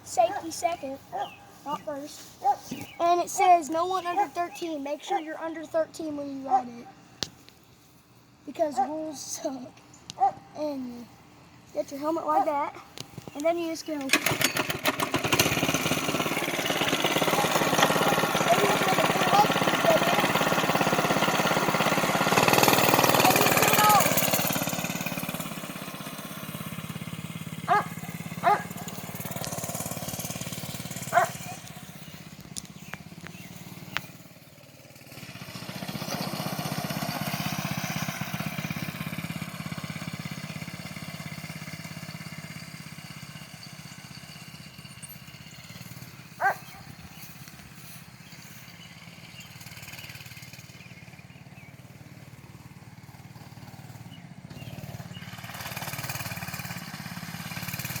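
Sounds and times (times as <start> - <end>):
mini bike engine running: 0.0 - 6.9, 11.8 - 58.0.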